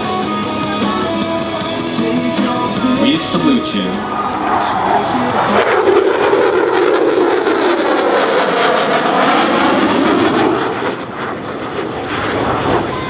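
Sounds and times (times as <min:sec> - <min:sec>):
jet flying past roaring: 0:00.0 - 0:13.0.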